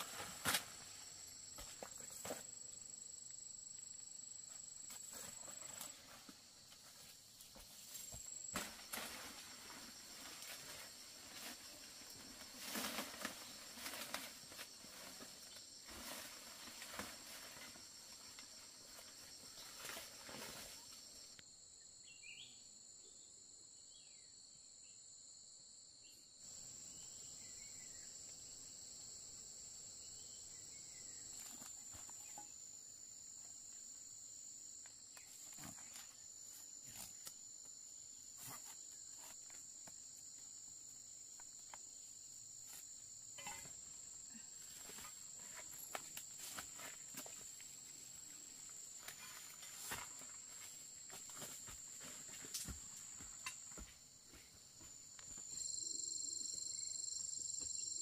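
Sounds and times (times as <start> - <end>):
high-pitched insect chorus: 0.0 - 25.1, 26.0 - 58.0.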